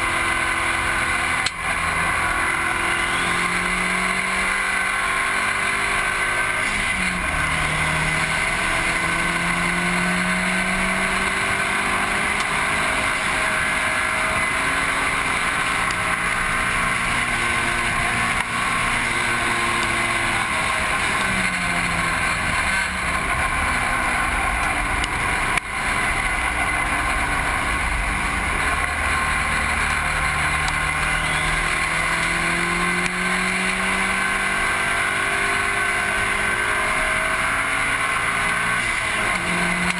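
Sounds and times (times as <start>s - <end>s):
car engine revving hard: 0.0s - 39.9s
wind and road noise: 0.0s - 39.9s.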